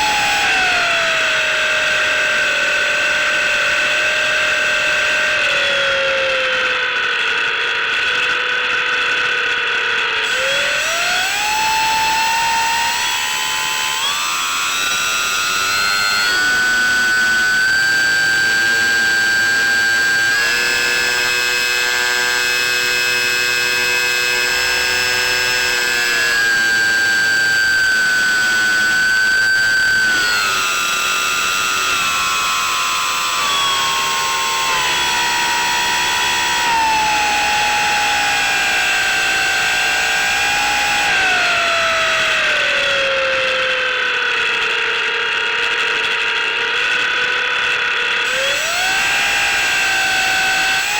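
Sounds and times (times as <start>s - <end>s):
model plane motor whining: 0.0s - 50.9s.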